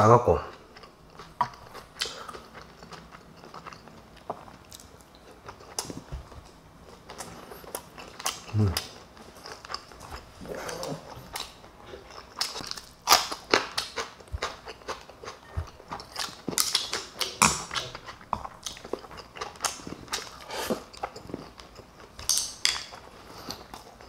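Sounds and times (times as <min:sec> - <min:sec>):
person chewing food: 0:00.5 - 0:24.0.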